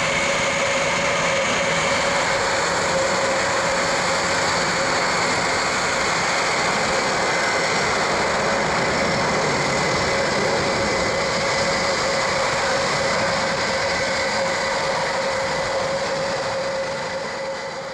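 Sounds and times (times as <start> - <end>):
steady engine whine: 0.0 - 17.9
turboprop engines running: 0.0 - 17.9.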